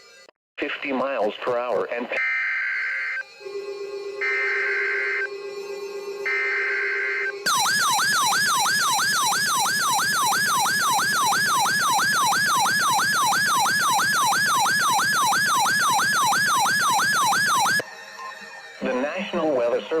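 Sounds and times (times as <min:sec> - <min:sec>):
electronic alert siren: 0:02.2 - 0:18.5.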